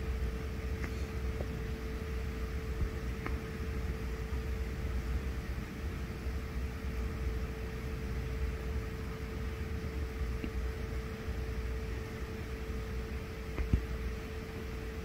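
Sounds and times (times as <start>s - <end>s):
mid-pitched hum: 0.0s - 15.0s.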